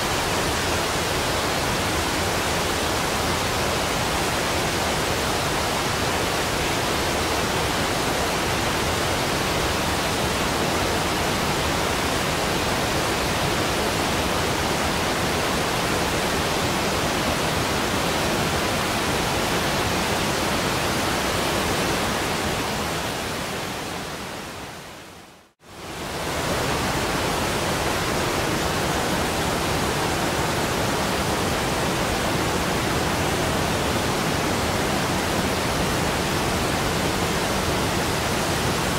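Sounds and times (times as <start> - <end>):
rushing floodwater: 0.0 - 38.9.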